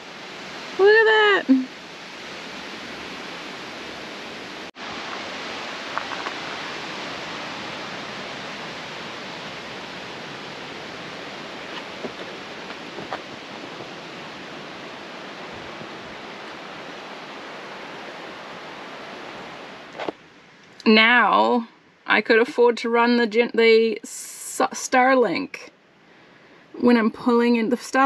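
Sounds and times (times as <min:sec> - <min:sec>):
rushing outdoor noise: 0:00.0 - 0:24.0.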